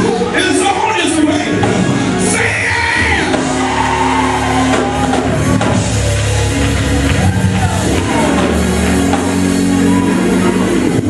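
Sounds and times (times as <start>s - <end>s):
church music with held chords: 0.0s - 11.0s.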